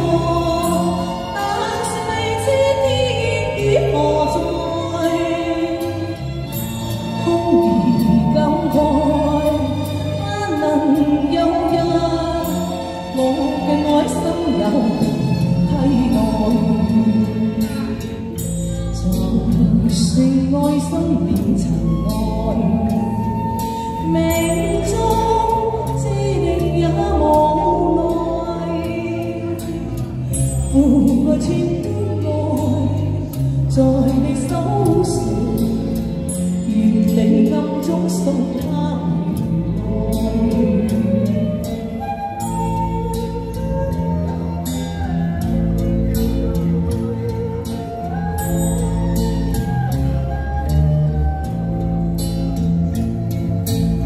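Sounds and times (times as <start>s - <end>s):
woman singing into microphone: 0.0s - 52.0s.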